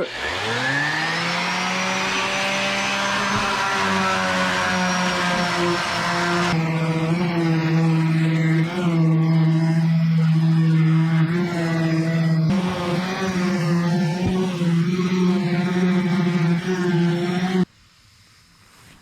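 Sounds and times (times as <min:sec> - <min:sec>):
orbital sander sanding wood: 0:00.0 - 0:17.7.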